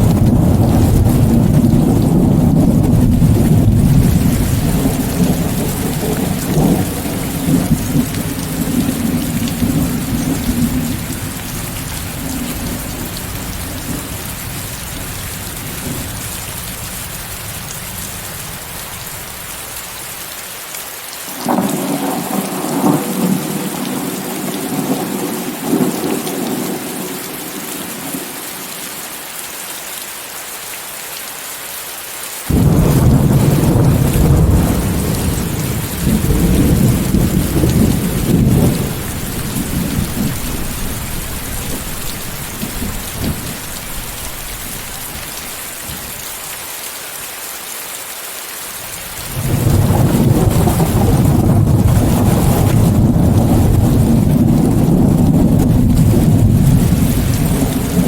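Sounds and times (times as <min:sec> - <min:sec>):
thunder rumbling: 0:00.0 - 0:19.2, 0:21.3 - 0:28.7, 0:32.5 - 0:46.2, 0:49.1 - 0:58.0
heavy rain: 0:00.0 - 0:58.0.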